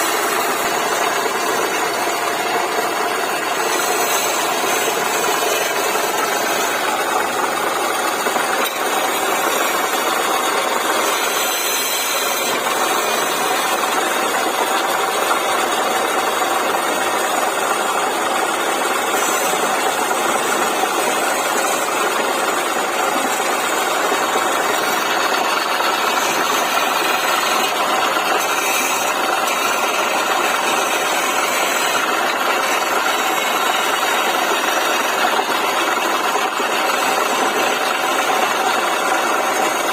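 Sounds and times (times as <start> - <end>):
wood lathe running: 0.0 - 39.9.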